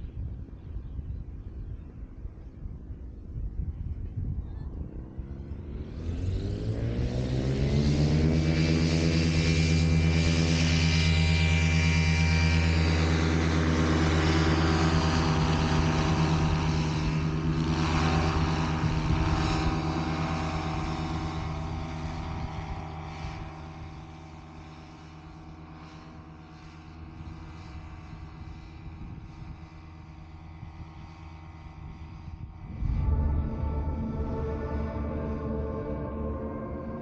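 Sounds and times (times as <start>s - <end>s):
paramotor engine running: 4.7s - 37.0s.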